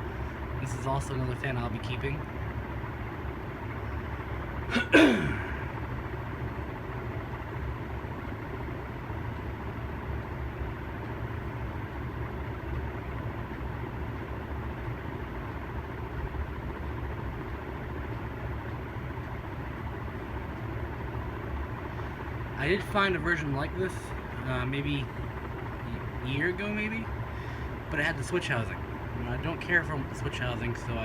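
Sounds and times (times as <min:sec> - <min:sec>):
ceiling fan air rushing: 0:00.0 - 0:31.0.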